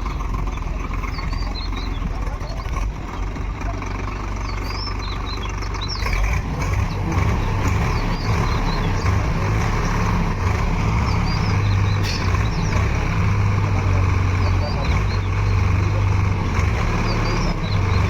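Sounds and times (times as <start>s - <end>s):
diesel engines running: 0.0s - 18.0s
small birds chirping: 0.0s - 18.0s.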